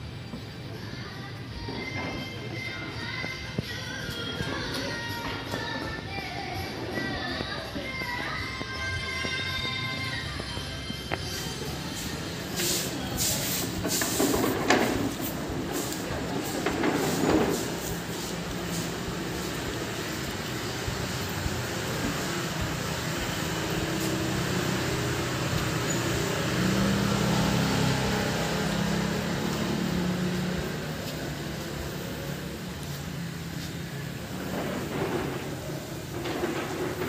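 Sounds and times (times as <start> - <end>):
motor engine humming: 3.0 - 36.3.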